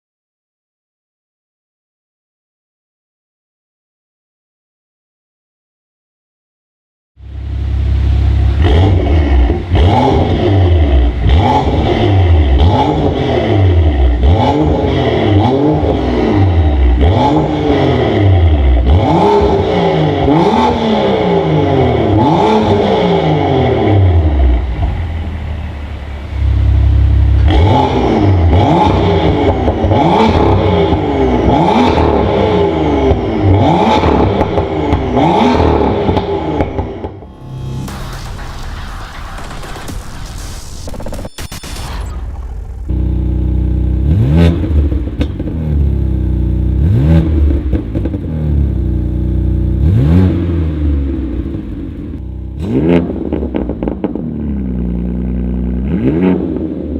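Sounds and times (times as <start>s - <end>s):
car engine revving: 7.2s - 56.9s.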